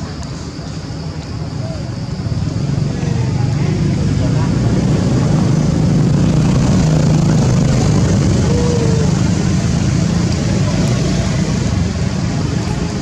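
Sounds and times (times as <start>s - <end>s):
engine running: 1.9s - 13.0s.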